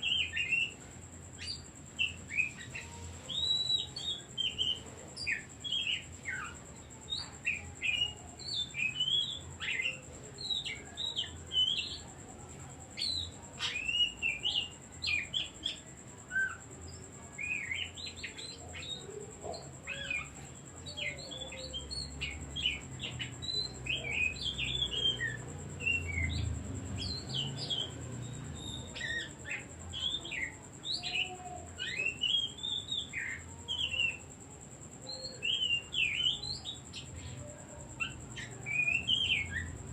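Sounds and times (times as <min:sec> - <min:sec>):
bird singing whistled notes: 0:00.0 - 0:12.2, 0:12.9 - 0:39.9.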